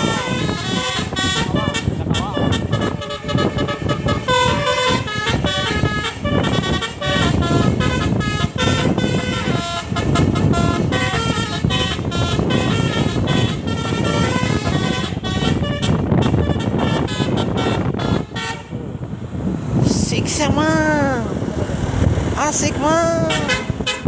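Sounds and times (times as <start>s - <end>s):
musical air horn melody: 0.0s - 18.9s, 23.2s - 24.0s.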